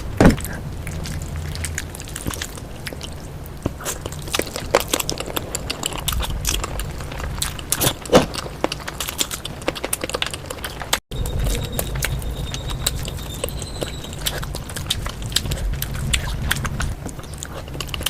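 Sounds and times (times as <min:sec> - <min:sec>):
low hum: 0:00.0 - 0:08.6, 0:11.1 - 0:18.0
chewing and mouth sounds: 0:00.0 - 0:18.0.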